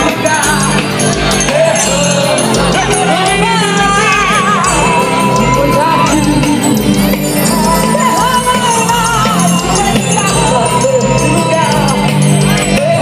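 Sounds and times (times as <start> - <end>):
worship music over loudspeakers: 0.0 - 13.0.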